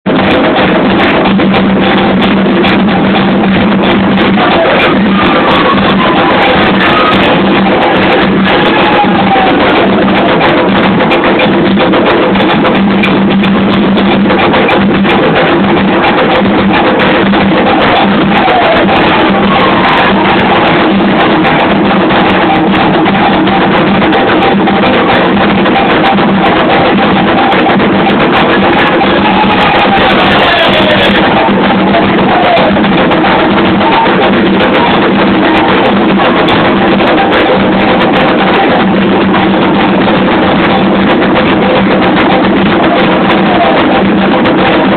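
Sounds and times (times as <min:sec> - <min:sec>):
hand drums beating: 0:00.0 - 0:44.9
group singing: 0:03.8 - 0:11.9, 0:15.2 - 0:44.8.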